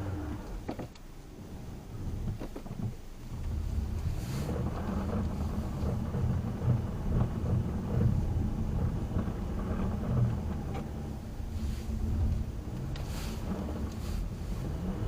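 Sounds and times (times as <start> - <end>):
car engine under heavy throttle: 0.0 - 15.0
tyres spinning in snow: 1.4 - 15.0.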